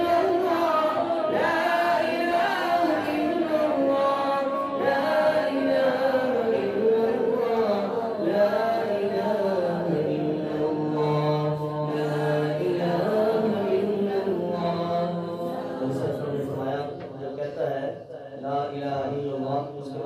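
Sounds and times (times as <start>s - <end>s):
person chanting melodically: 0.0s - 19.9s.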